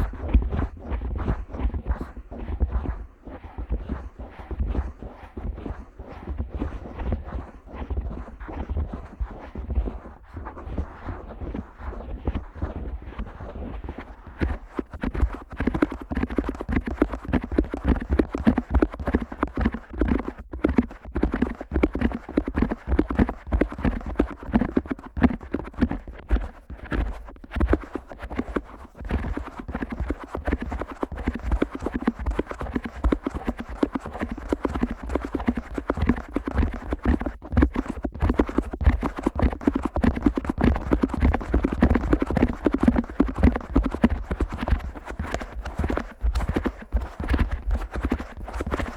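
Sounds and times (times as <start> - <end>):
fingers flicking on microphone: 0.0 - 48.9.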